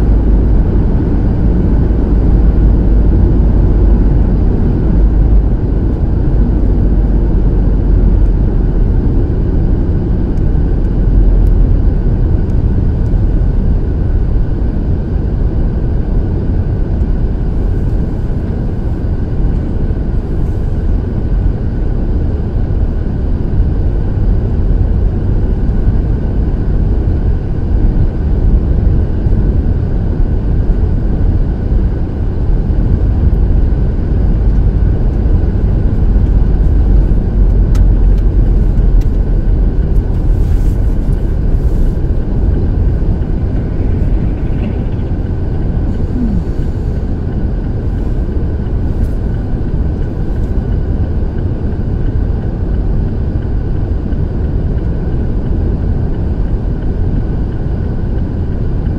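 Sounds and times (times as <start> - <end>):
car interior road rumble: 0.0 - 58.9.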